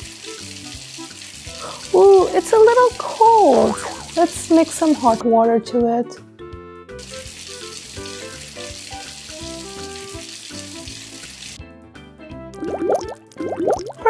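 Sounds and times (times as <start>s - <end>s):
water running: 0.0s - 5.2s, 6.9s - 11.6s, 12.6s - 14.0s
light background music: 0.0s - 14.0s.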